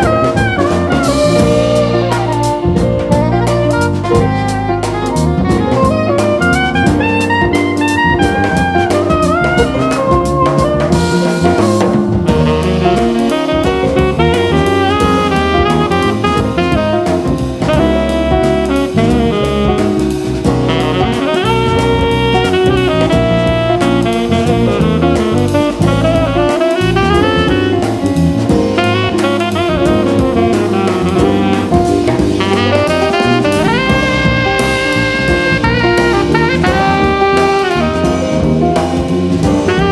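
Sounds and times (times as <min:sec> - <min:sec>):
bass line: 0:00.0 - 0:39.9
drum kit keeping time: 0:00.0 - 0:39.9
jazz horns playing melody: 0:00.0 - 0:39.9.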